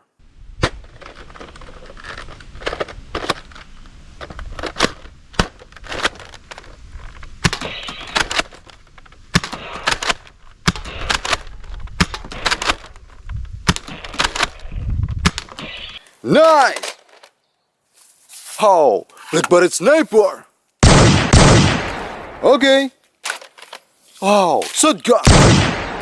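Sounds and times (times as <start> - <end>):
rustling: 0.6 - 14.8, 15.4 - 20.8, 21.7 - 26.0.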